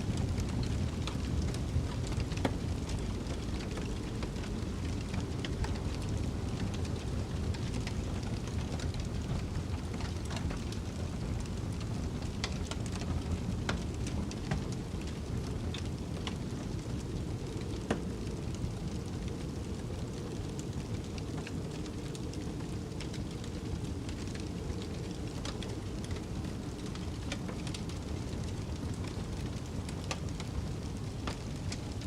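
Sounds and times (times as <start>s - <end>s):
low rumble of storm wind: 0.0s - 32.0s
wood fire crackling: 0.0s - 32.0s
fire pops and snaps: 0.1s - 32.0s.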